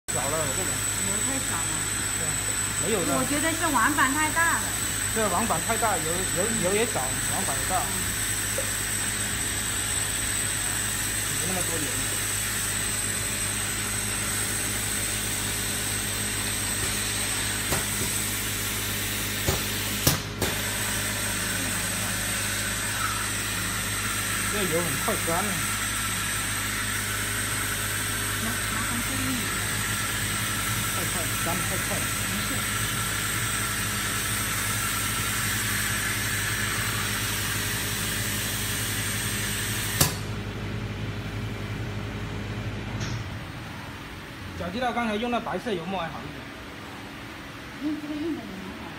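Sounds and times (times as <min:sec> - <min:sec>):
printing machine humming: 0:00.1 - 0:47.0.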